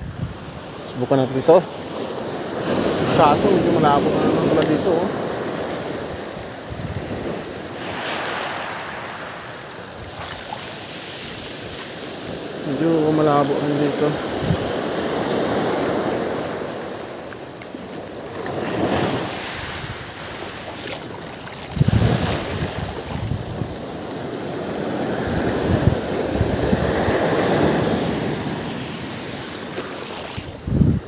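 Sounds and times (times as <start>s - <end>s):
small surf breaking on shore: 0.3s - 31.0s.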